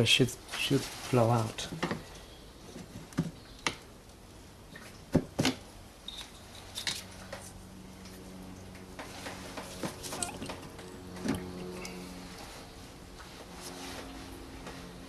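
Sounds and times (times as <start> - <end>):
faint steady hum: 1.6 - 15.0.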